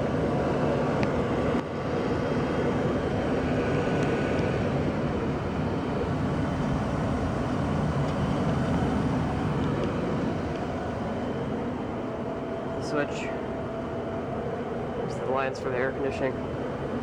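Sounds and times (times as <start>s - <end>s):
gas furnace running: 0.0s - 17.0s.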